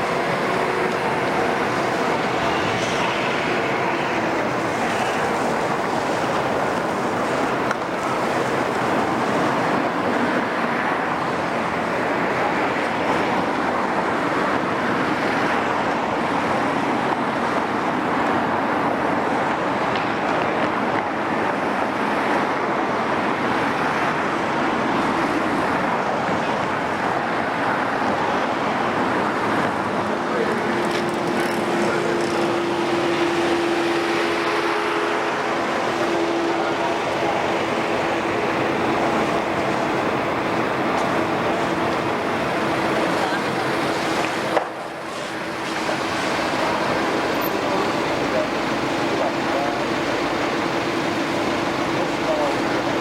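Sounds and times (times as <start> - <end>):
excavator engine droning: 0.0 - 53.0.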